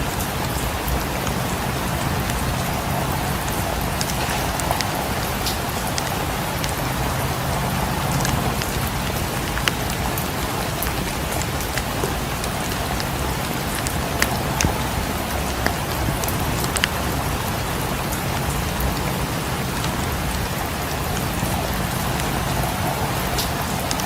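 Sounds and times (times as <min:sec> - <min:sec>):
sharp ticks and crackles: 0:00.0 - 0:24.0
steady rain falling: 0:00.0 - 0:24.0.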